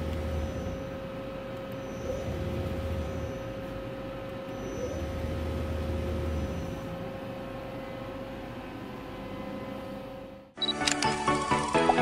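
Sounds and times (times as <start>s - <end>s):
deeper hum: 0.0s - 10.5s
lathe mechanical hum: 0.0s - 11.8s.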